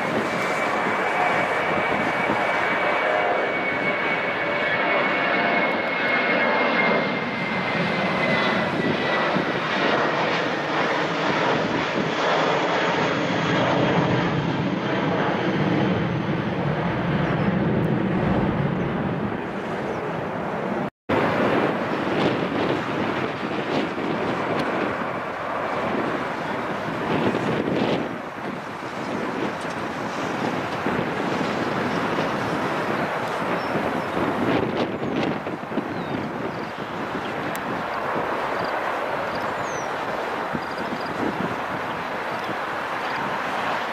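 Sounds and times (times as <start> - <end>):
airplane engines running: 0.0 - 43.9.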